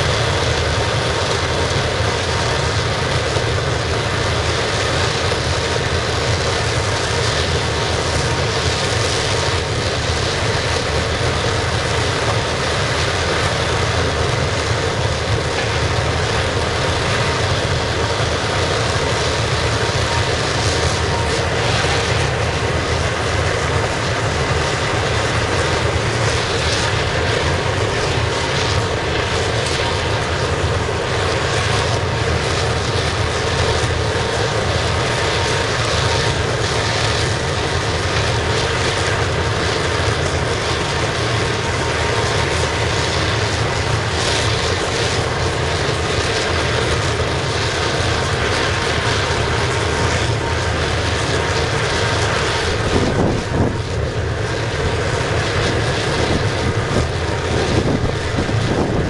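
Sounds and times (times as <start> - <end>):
oil burner flame roaring: 0.0 - 59.0.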